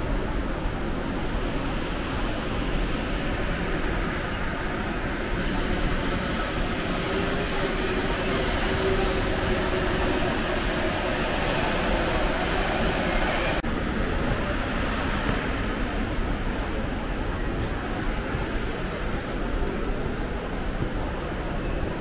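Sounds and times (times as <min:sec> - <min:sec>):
rushing noise with low rumble: 0:00.0 - 0:22.0.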